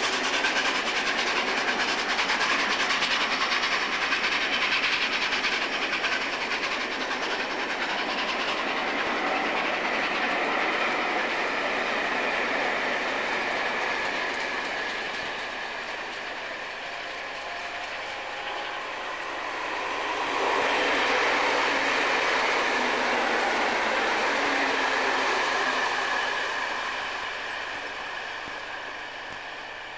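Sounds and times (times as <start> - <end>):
passing train: 0.0 - 29.9
train wheels rolling on rails: 0.0 - 29.9.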